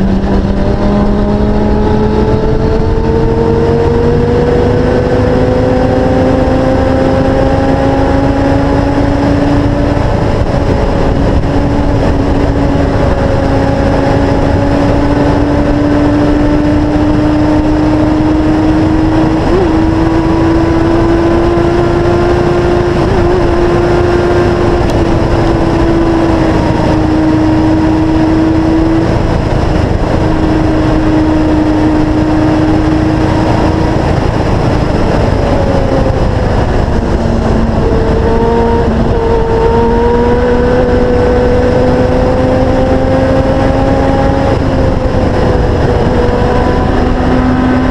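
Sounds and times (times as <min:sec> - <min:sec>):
motorcycle engine running: 0:00.0 - 0:47.9
wind rush on microphone: 0:00.0 - 0:47.9.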